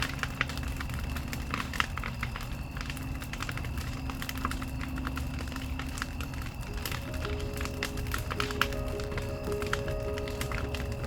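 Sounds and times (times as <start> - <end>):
bonfire crackling: 0.0 - 11.0.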